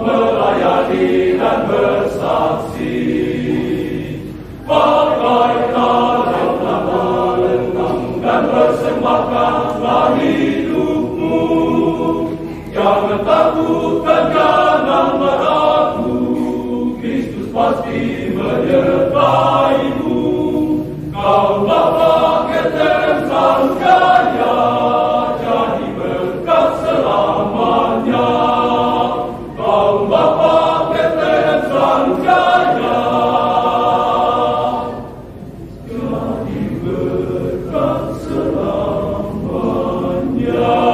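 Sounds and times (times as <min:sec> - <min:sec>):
men's choir singing: 0:00.0 - 0:40.9.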